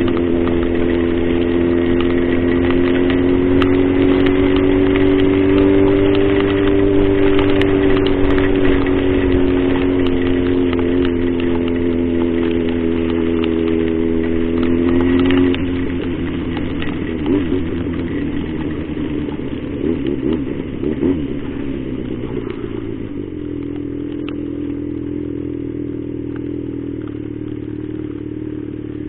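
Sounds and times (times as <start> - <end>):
motorcycle engine cruising: 0.0 - 29.0
wind and wet road hiss: 0.0 - 29.0.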